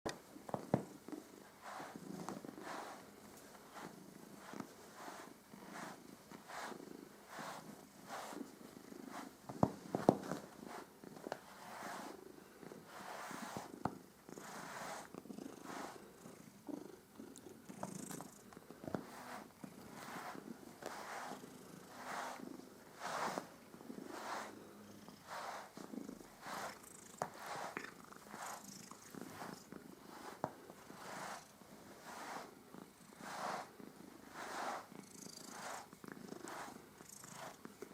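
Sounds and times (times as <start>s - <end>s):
cat purring: 0.1s - 37.9s.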